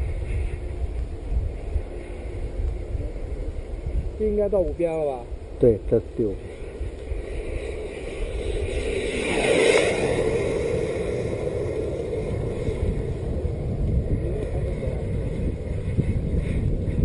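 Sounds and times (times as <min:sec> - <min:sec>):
model jet turbine whine: 0:00.0 - 0:17.0
wind rumble on microphone: 0:00.0 - 0:17.0.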